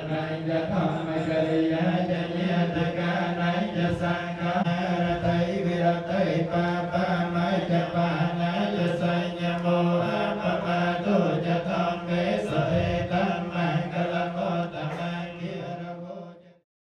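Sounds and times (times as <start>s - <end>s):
monks chanting in unison: 0.0s - 16.6s.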